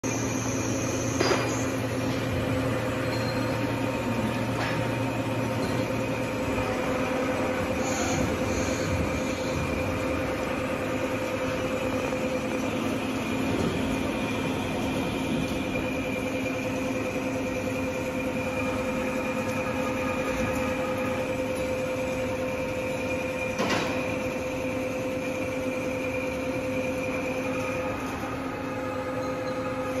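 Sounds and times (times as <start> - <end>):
workshop machinery humming: 0.0 - 30.0.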